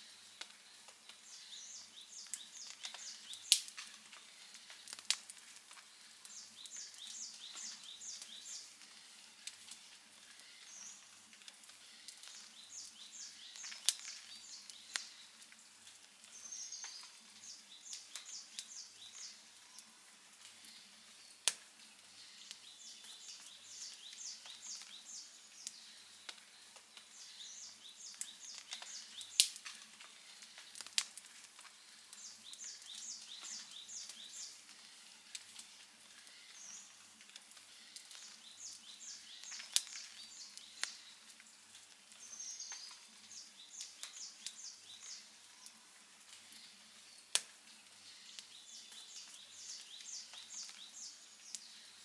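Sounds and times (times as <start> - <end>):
campfire crackling and popping: 0.1 - 52.0.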